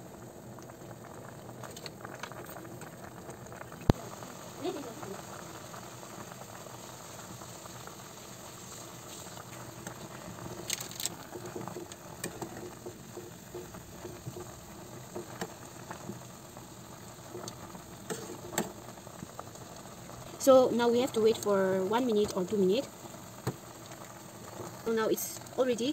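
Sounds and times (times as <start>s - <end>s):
noodles boiling in a pot: 0.0s - 25.9s.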